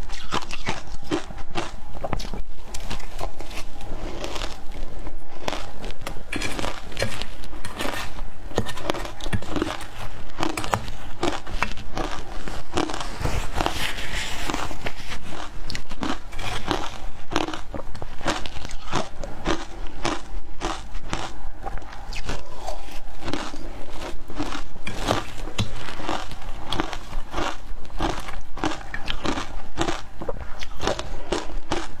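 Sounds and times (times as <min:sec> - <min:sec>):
ice being bitten and chewed: 0:00.0 - 0:32.0.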